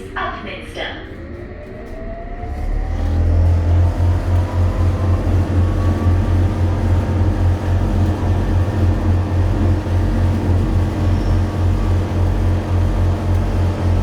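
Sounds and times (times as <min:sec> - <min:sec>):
low pulsing train drone: 0:00.0 - 0:14.0
faint rising whine: 0:01.0 - 0:14.0.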